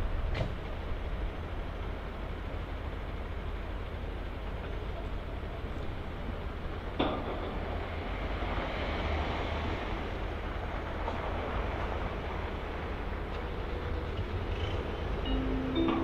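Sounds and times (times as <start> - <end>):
train rumbling on tracks: 0.0 - 16.0.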